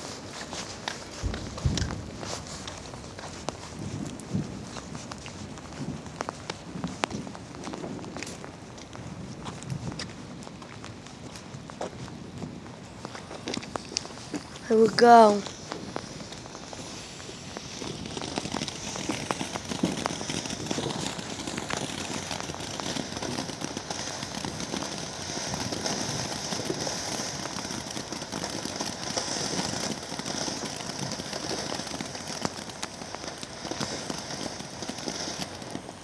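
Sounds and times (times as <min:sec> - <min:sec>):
firework pops: 0:00.0 - 0:36.0
firework spraying sparks crackling: 0:00.0 - 0:36.0.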